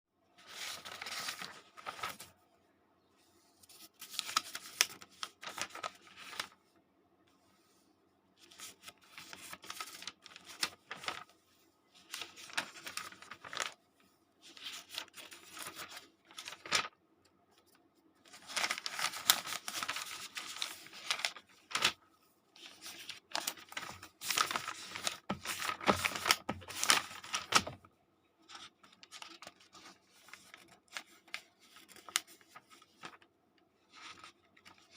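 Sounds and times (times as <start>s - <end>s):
paper pages turning: 0.4s - 2.3s, 3.5s - 6.6s, 8.4s - 22.0s, 22.6s - 34.9s.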